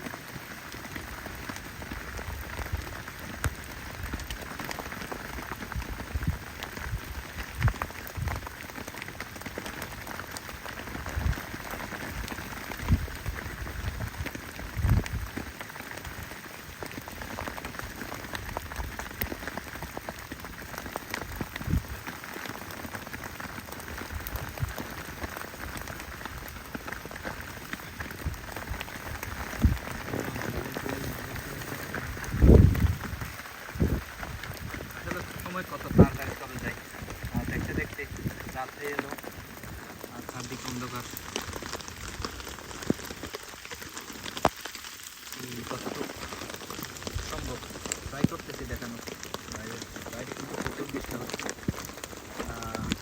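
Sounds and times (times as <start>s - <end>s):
rain pattering on a tent: 0.0s - 53.0s.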